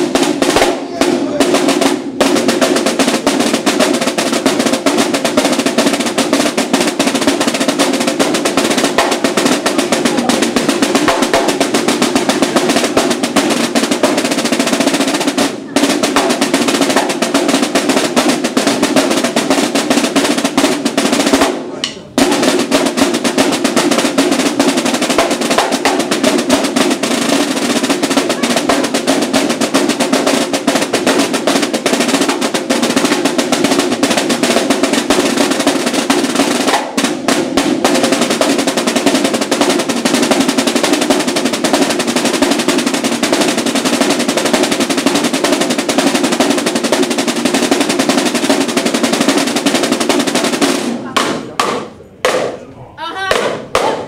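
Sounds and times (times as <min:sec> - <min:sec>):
snare drums playing rolls: 0:00.0 - 0:54.0.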